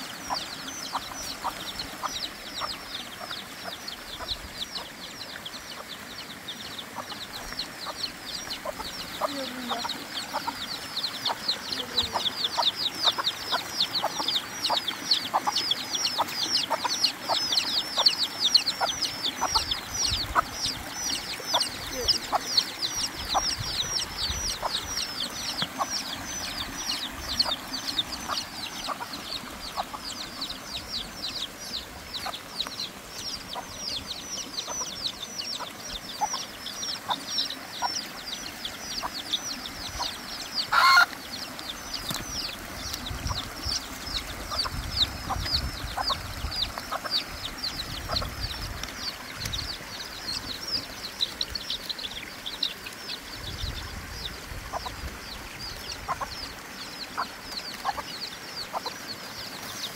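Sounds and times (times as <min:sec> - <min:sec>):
hen clucking softly: 0:00.0 - 0:49.6, 0:54.7 - 0:59.8
chicks peeping: 0:00.0 - 0:59.9.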